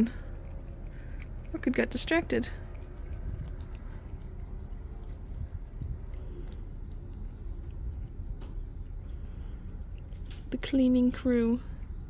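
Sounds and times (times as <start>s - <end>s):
cat licking wet ticks: 0.0s - 12.0s
steady low rumble: 0.0s - 12.0s.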